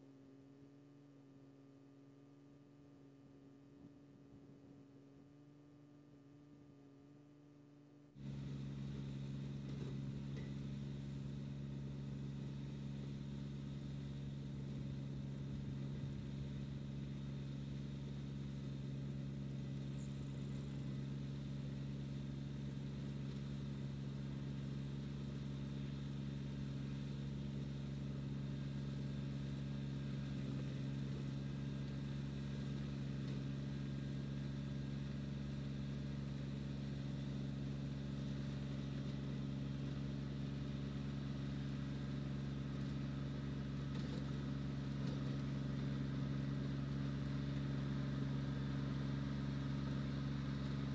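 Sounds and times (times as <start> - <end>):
tractor diesel engine running: 8.2 - 50.9.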